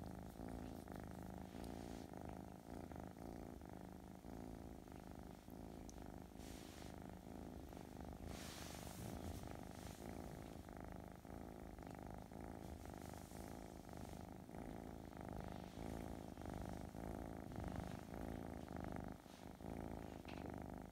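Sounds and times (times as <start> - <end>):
kitten purring: 0.0 - 20.9.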